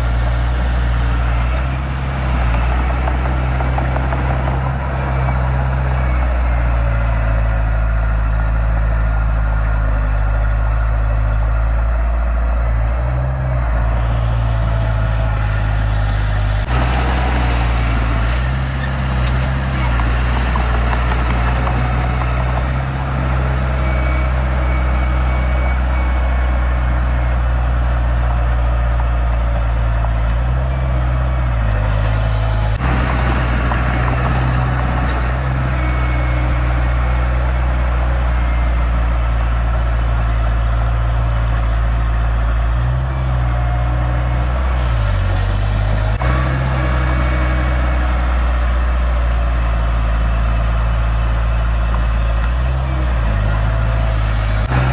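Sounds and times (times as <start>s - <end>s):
heavy diesel machinery drone: 0.0s - 54.9s.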